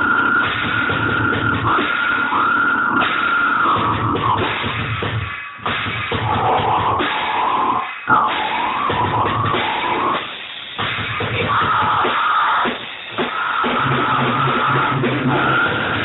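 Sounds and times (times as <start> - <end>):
heavy rock music with guitar: 0.0 - 16.0.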